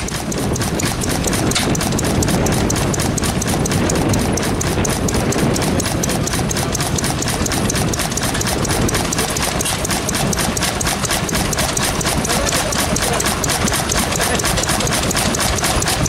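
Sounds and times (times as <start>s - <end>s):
stationary engine running: 0.0s - 16.0s
valve gear clattering: 0.0s - 16.0s.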